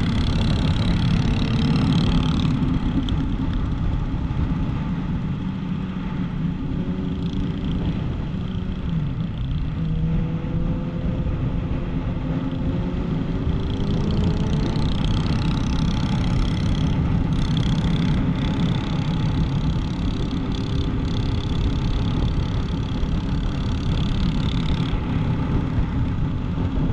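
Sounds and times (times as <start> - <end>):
heavy low rumble: 0.0 - 26.9
motorbike engine running at speed: 0.0 - 26.9.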